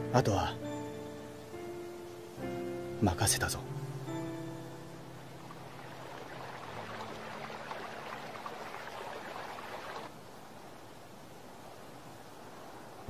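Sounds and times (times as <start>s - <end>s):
faint hiss: 0.0s - 13.0s
rushing river water: 0.0s - 13.0s.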